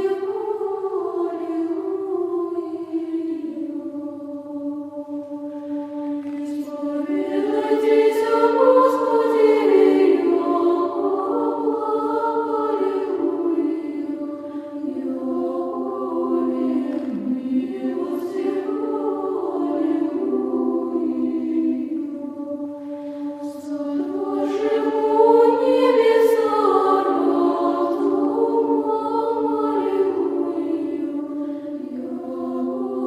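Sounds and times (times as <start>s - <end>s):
choir singing chant: 0.0s - 33.0s.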